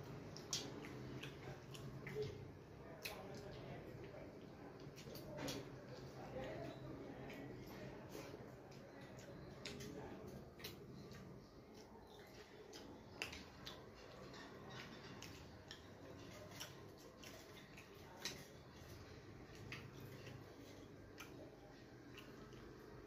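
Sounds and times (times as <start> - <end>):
low background hum: 0.0 - 23.0
soft eating clicks: 0.0 - 23.0.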